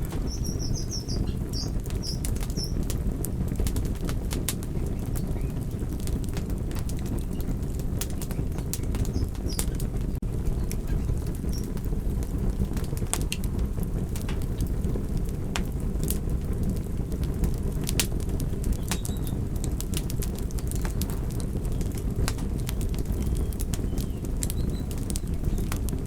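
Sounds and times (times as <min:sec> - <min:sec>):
burning wood crackling and popping: 0:00.0 - 0:26.0
low rumble of flames: 0:00.0 - 0:26.0.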